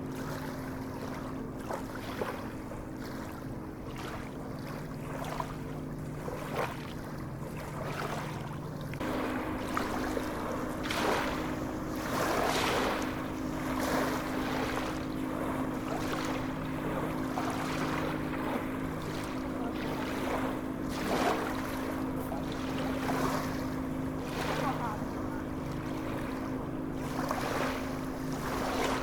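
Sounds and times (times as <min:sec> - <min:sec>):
low motor hum: 0:00.0 - 0:29.0
sea waves washing: 0:00.0 - 0:29.0.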